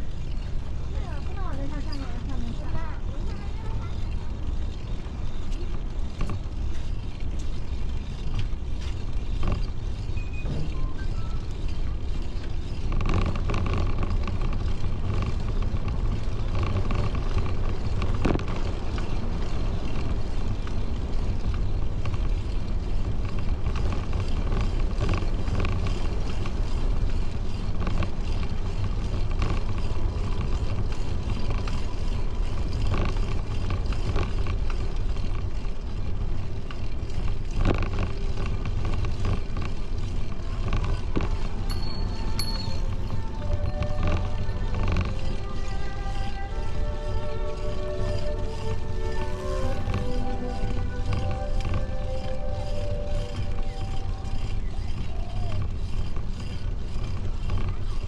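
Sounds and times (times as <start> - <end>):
bicycle tyre noise on pavement: 0.0 - 58.0.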